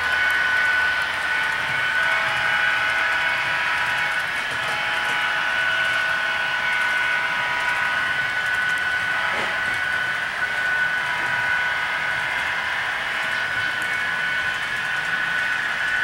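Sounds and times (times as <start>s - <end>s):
model train motor whine: 0.0s - 16.0s
wheels on rails: 0.0s - 16.0s.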